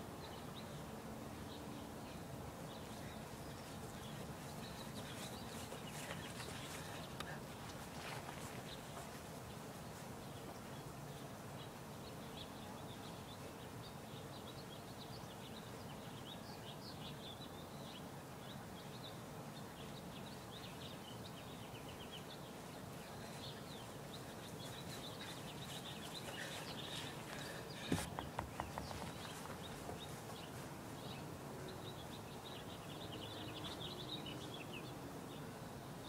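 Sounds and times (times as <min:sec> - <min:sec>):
birds chirping: 0:00.0 - 0:36.0
faint outdoor background noise: 0:00.0 - 0:36.0.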